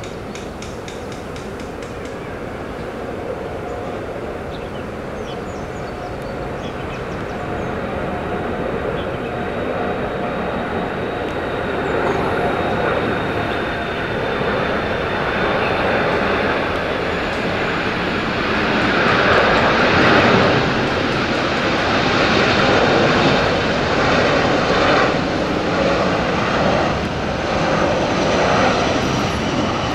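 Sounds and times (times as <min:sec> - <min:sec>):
jet engines roaring overhead: 0:00.0 - 0:29.9
thin high engine whine: 0:00.0 - 0:29.9.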